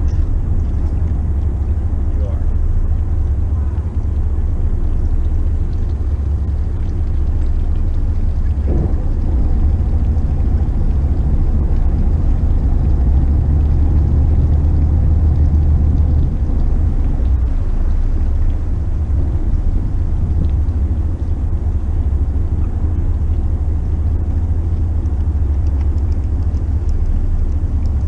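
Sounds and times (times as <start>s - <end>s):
boat engines rumbling: 0.0s - 28.0s.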